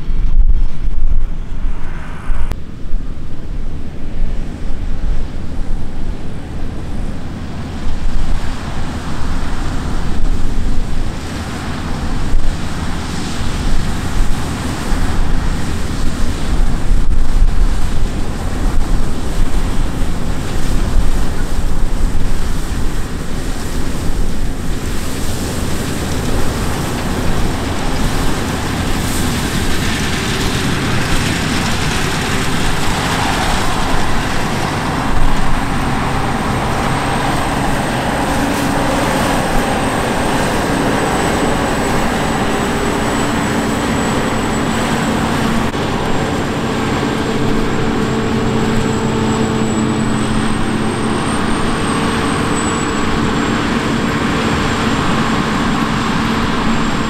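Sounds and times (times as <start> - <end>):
thin high whine: 0.0 - 5.8, 14.9 - 57.0
vehicle engine running: 0.0 - 57.0.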